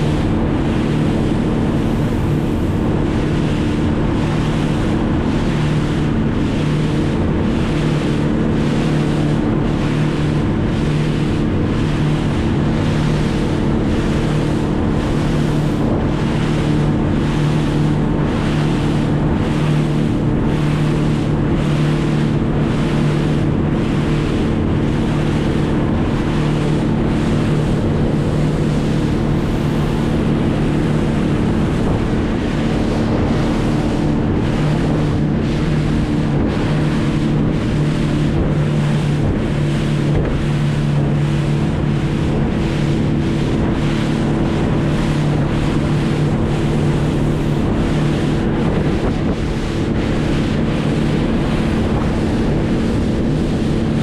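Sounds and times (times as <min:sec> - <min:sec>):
engine running steadily: 0:00.0 - 0:54.0
wind noise on microphone: 0:00.0 - 0:54.0.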